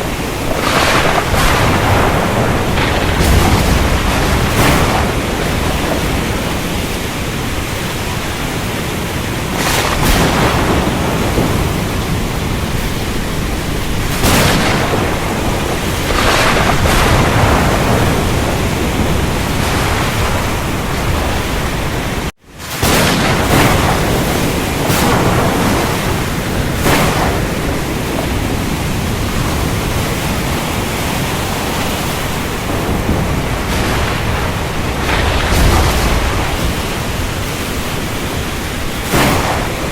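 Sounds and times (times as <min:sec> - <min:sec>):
rain falling: 0:00.0 - 0:39.9
thunder rolling: 0:00.0 - 0:39.9.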